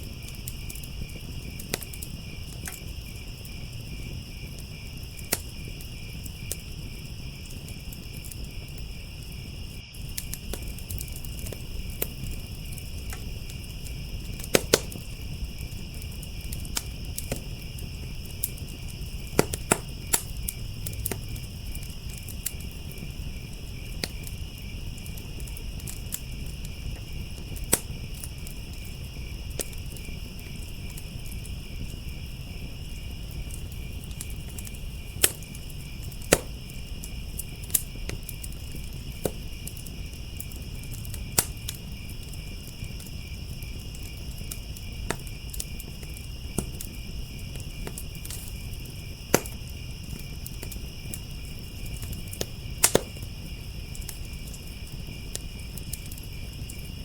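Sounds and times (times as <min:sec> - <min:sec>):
crickets chirping: 0:00.0 - 0:57.0
wood fire crackling and popping: 0:00.0 - 0:57.0.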